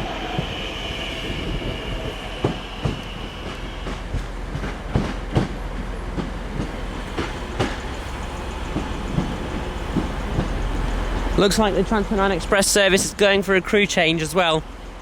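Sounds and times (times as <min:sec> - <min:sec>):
train wheels clattering over rails: 0:00.0 - 0:14.6
steady low hum: 0:00.0 - 0:14.9.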